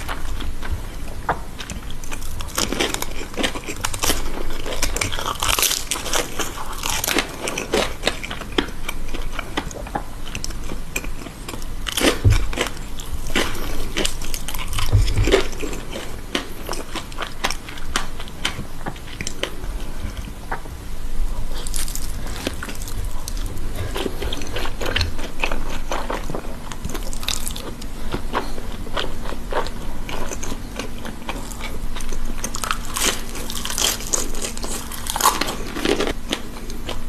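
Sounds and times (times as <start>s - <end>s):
person chewing crunchy food: 0.0s - 37.0s.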